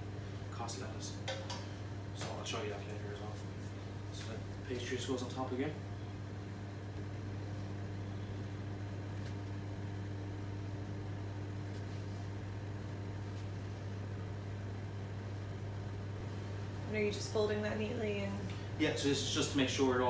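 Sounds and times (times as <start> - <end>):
kitchen equipment humming: 0.0 - 20.0.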